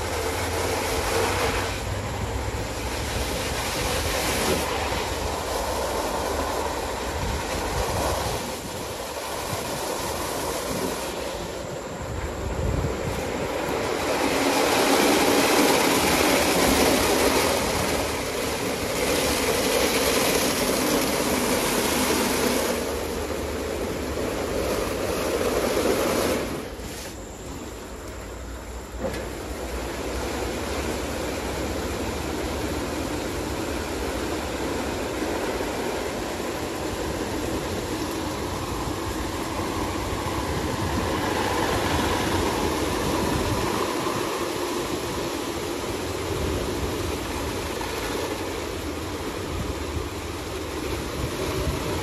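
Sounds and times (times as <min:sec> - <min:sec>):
car wash water and machinery rushing: 0:00.0 - 0:52.0.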